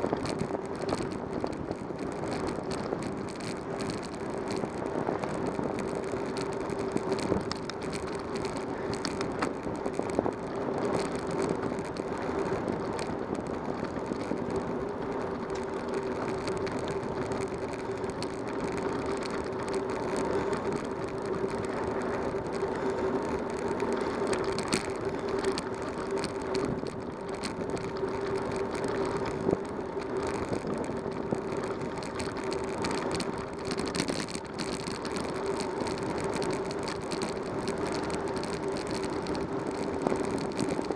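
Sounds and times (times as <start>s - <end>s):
bicycle tyres rolling on pavement: 0.0s - 40.9s
small clicks and rattles: 0.0s - 40.9s.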